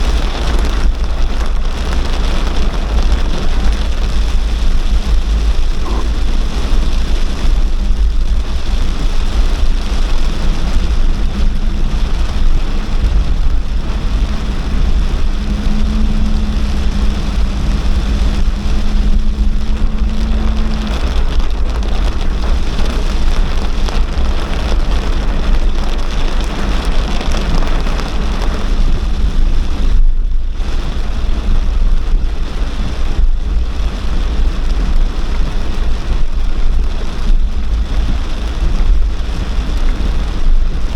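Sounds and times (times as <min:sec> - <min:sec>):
deep rumble: 0:00.0 - 0:40.9
heavy rain: 0:00.0 - 0:40.9.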